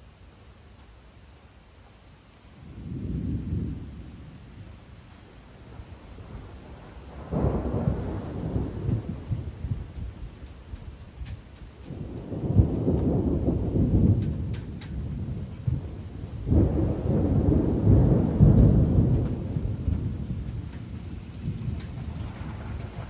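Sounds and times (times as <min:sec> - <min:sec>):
rain hiss: 0:00.0 - 0:23.0
thunder rumbling: 0:02.6 - 0:23.0.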